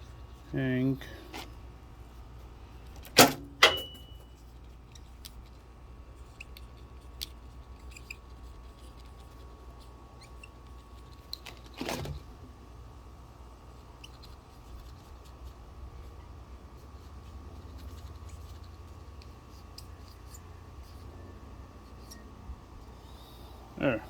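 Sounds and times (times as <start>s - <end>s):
small ticks and rattle of handling: 0.0s - 12.3s, 13.6s - 21.1s
faint steady hum: 0.0s - 24.0s.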